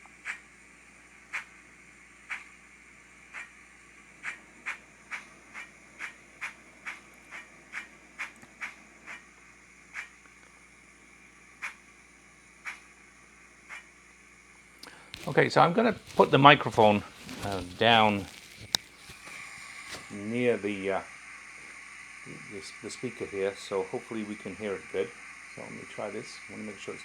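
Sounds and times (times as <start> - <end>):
model steam locomotive chuffs: 0.0 - 17.1, 19.3 - 27.0
steady hiss: 0.0 - 27.0.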